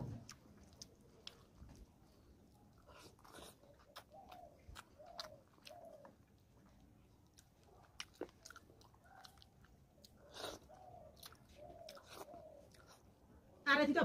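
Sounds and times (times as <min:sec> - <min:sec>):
man chewing food: 0:00.0 - 0:13.6.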